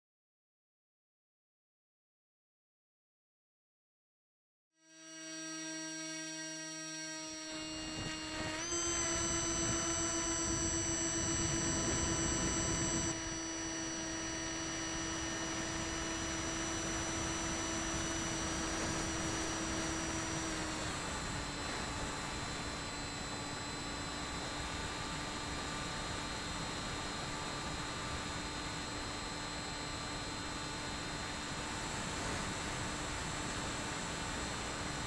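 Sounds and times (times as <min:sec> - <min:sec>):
electric motor and propeller whining: 0:04.8 - 0:35.0.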